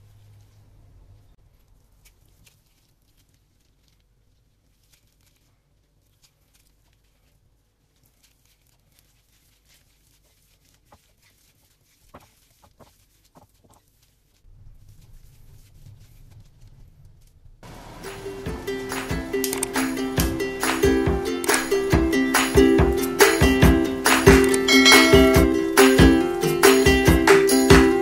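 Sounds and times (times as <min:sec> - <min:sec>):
potatoes being mashed by hand: 0:01.4 - 0:14.5, 0:17.6 - 0:28.0.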